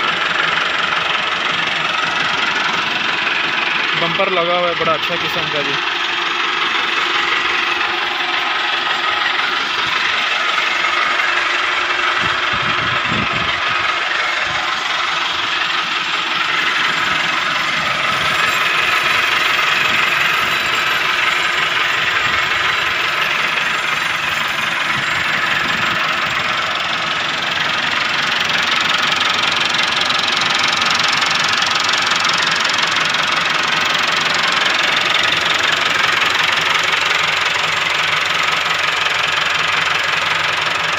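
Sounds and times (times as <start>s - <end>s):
tractor diesel engine idling: 0.0s - 40.9s.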